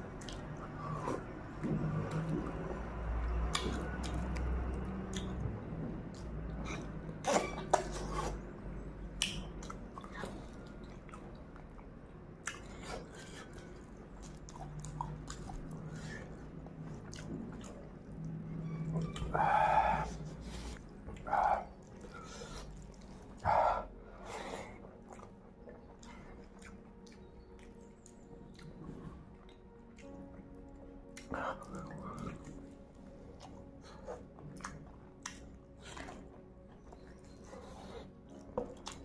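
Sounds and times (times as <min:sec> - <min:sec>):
chewing with wet mouth smacks: 0:00.2 - 0:08.5, 0:09.1 - 0:11.8, 0:12.4 - 0:39.0.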